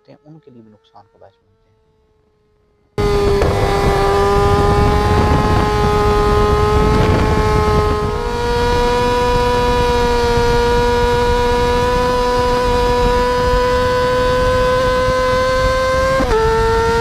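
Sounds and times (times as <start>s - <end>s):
motorcycle engine at high revs: 3.0s - 17.0s.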